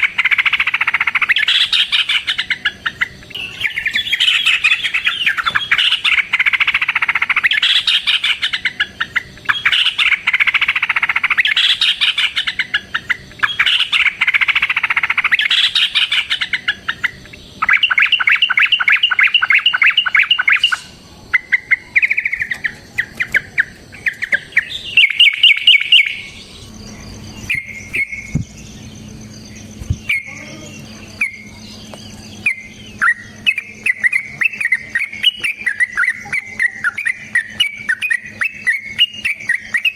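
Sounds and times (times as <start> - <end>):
birds singing in chatter: 0.0 - 39.9
faint low hum: 0.0 - 39.9.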